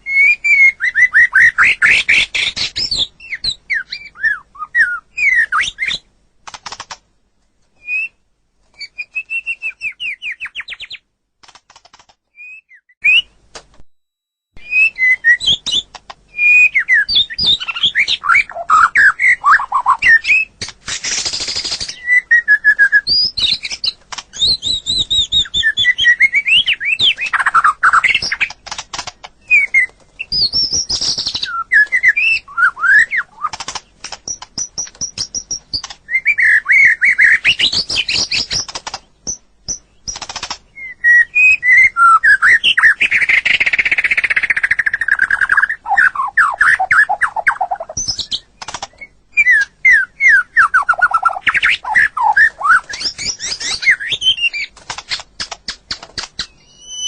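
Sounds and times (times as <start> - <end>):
bird singing varied song: 0.0 - 6.2, 7.8 - 11.1, 14.6 - 57.0.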